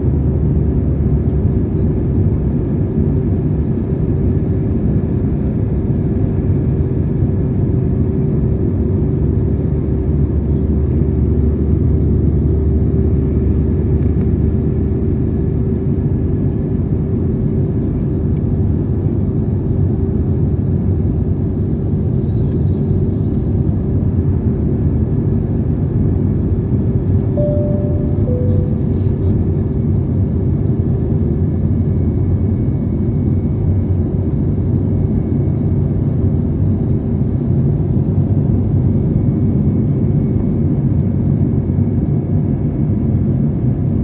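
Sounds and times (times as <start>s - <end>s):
airliner cabin engine rumble: 0.0s - 44.0s
constant low hum: 0.0s - 44.0s.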